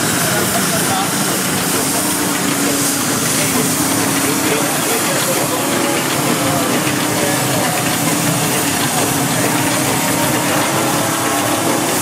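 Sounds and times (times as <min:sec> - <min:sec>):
steam engine hissing: 0:00.0 - 0:12.0.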